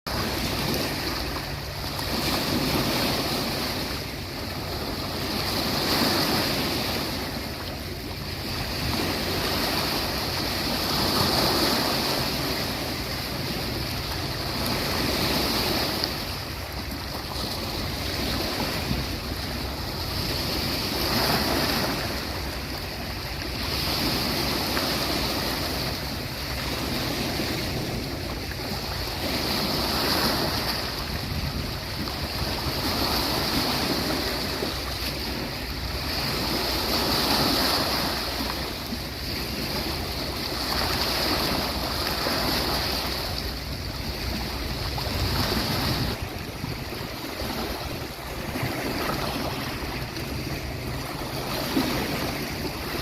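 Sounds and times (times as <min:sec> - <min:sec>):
sea waves breaking on beach: 0:00.1 - 0:53.0.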